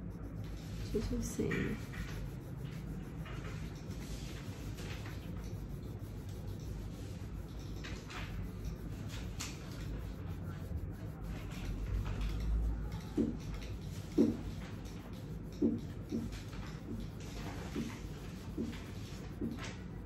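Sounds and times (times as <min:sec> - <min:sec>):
pencil scratching on paper: 0:00.0 - 0:20.0
steady low hum: 0:00.0 - 0:20.0.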